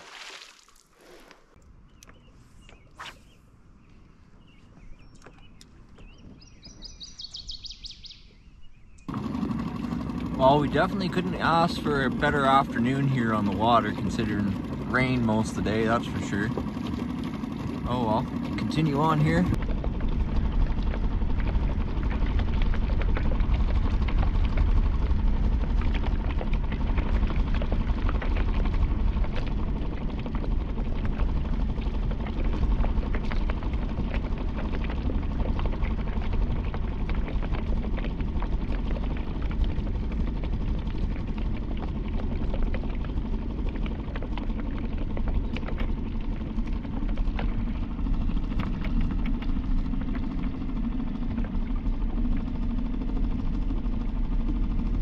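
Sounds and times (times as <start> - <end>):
outboard motor running: 4.4 - 55.0.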